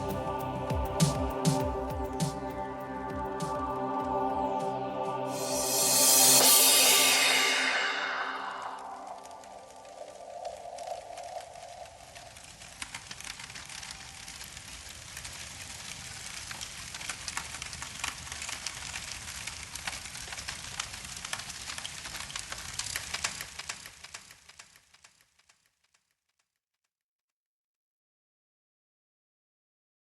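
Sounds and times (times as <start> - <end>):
rain falling: 0.0 - 7.4, 8.1 - 25.2
fire crackling: 0.0 - 26.0.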